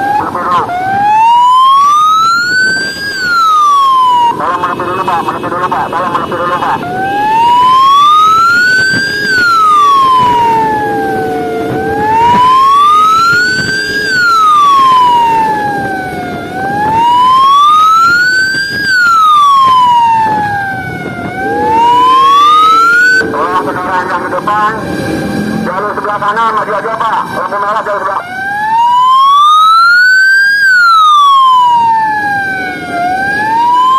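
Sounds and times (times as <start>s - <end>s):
fire truck siren wailing: 0.0s - 33.9s.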